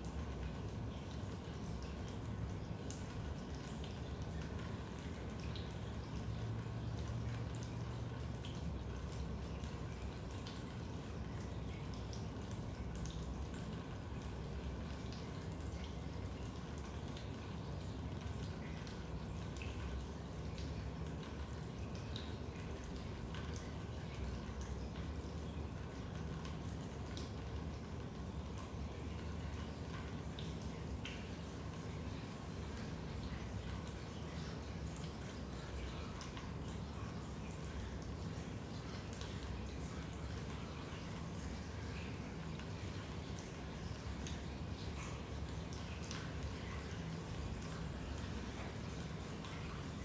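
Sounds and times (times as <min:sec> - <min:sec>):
water dripping: 0:00.0 - 0:50.0.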